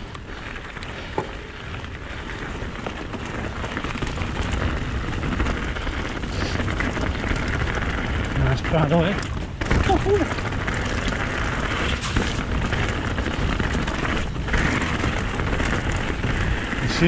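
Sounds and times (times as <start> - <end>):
bike rattling: 0.0 - 17.0
bike tyres crunching on gravel: 0.0 - 17.0
wind rumble on microphone: 0.0 - 17.0.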